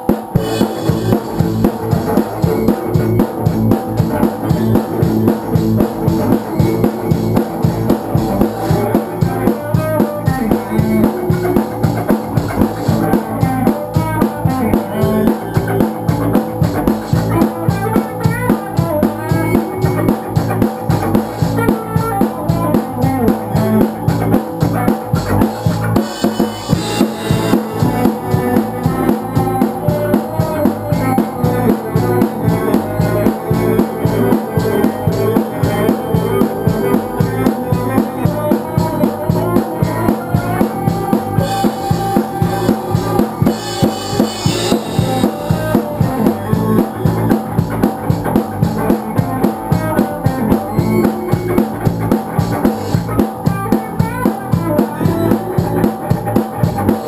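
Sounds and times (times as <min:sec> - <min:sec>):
drum kit steady beat: 0:00.0 - 0:57.0
rock band playing live: 0:00.0 - 0:57.0.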